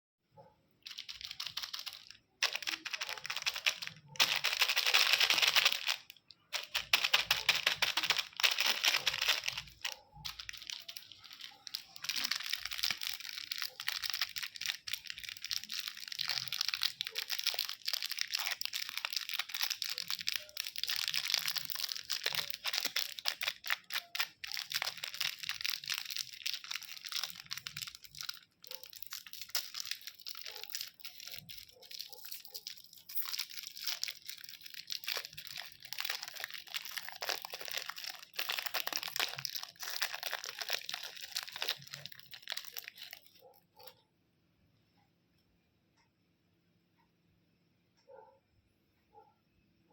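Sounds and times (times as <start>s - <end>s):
candy wrappers crinkling: 0.8s - 43.9s.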